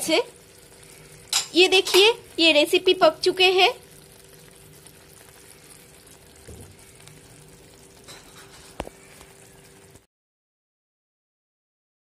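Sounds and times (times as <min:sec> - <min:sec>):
curry bubbling and sizzling: 0:00.0 - 0:10.1.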